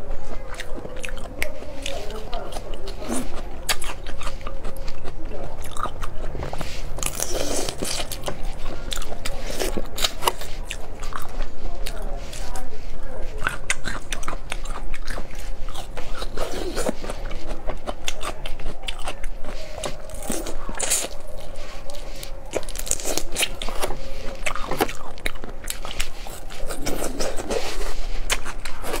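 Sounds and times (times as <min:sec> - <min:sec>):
shrimp shell crunching: 0:00.0 - 0:12.7, 0:13.3 - 0:29.0
wet chewing: 0:00.0 - 0:29.0.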